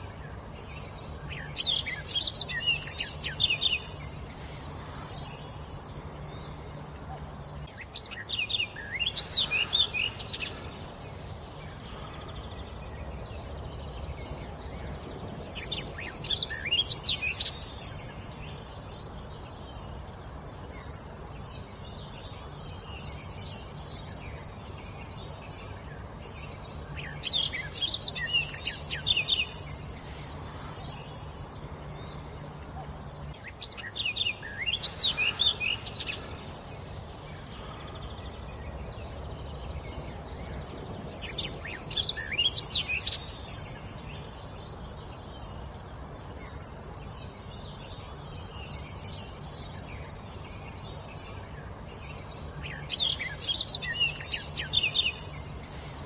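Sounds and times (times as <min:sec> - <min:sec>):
background hiss and low hum: 0:00.0 - 0:56.0
songbird singing: 0:00.0 - 0:56.0.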